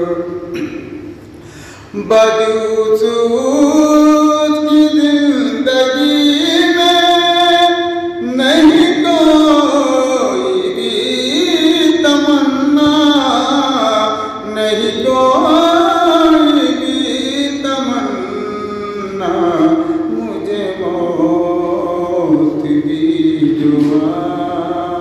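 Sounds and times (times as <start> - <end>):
man singing unaccompanied: 0.0 - 0.5, 1.9 - 25.0.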